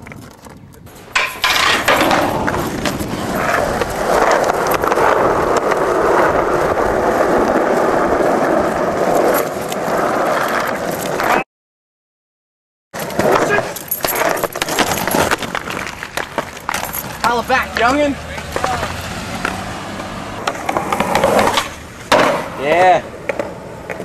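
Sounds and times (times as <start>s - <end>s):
skateboard wheels rolling on pavement: 0.0s - 11.4s, 13.0s - 24.0s.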